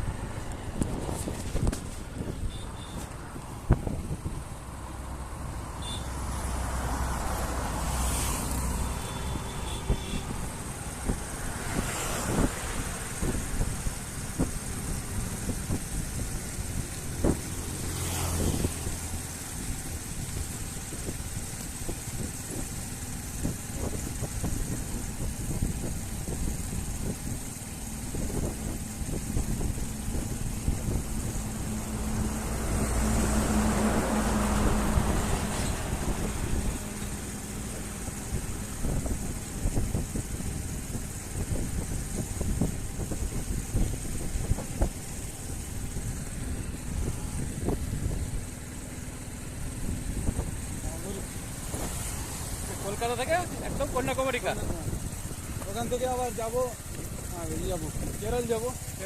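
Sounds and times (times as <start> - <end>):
road traffic noise: 0.0 - 59.0
vehicle passing with low rumble: 0.0 - 59.0.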